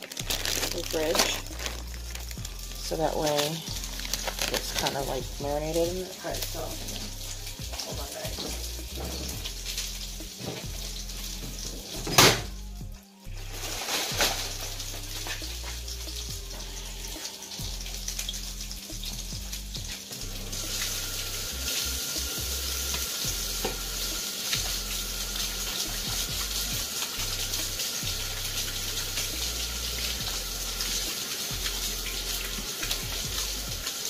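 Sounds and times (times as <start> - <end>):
steaks sizzling in a pan: 0.0 - 12.0, 13.3 - 34.0
background music: 0.0 - 34.0.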